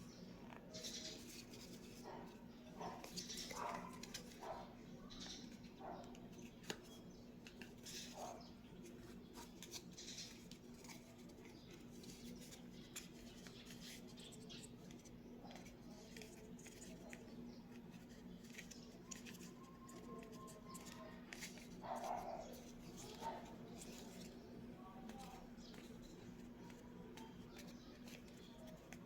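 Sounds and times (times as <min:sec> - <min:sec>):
faint low hum: 0:00.0 - 0:29.0
soft clicks and rustles: 0:00.4 - 0:29.0.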